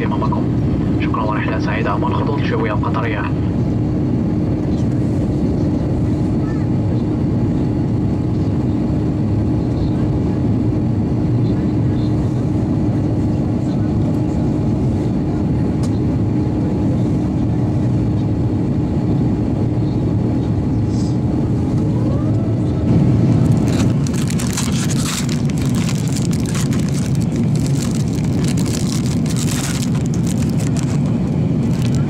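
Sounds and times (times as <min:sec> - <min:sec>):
jet engines whining: 0:00.0 - 0:32.0
rushing rumble with rattles: 0:03.4 - 0:32.0.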